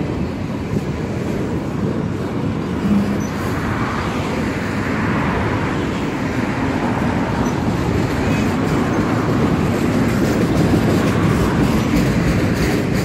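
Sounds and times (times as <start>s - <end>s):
freight train rolling past: 0.0s - 13.0s.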